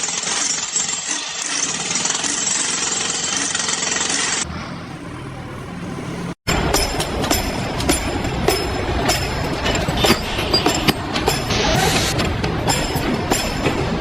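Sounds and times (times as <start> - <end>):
jackhammer pounding: 0.0 - 13.6.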